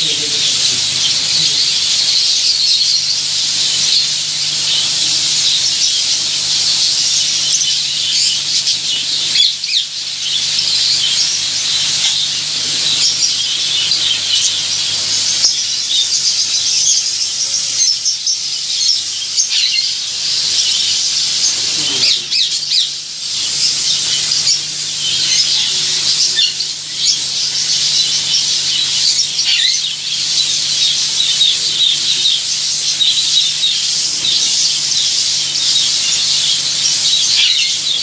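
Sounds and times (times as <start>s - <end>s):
spray-foam gun hissing: 0.0s - 38.0s.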